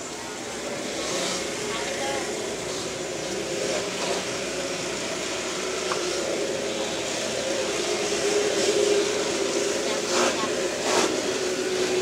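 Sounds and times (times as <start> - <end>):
indistinct crowd noise: 0.0 - 12.0.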